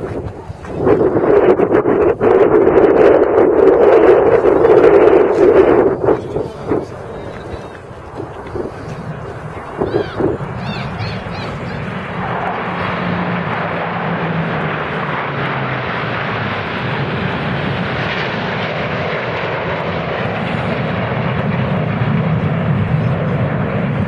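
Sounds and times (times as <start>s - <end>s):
low hum dropping in pitch: 0.0s - 23.8s
jet aircraft flying past: 0.0s - 24.0s.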